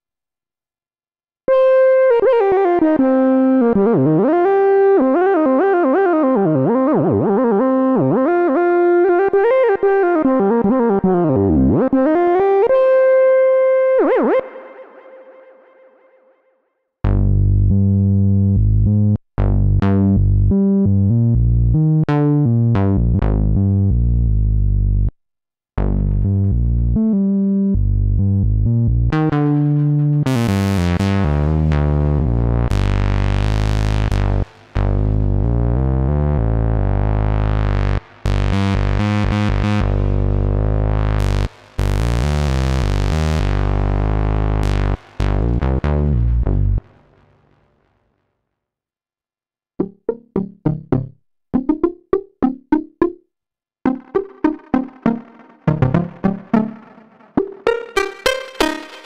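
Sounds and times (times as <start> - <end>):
analog synthesizer bass notes: 1.5 - 13.0, 17.0 - 25.1, 25.8 - 47.6, 49.8 - 53.2, 53.8 - 59.0.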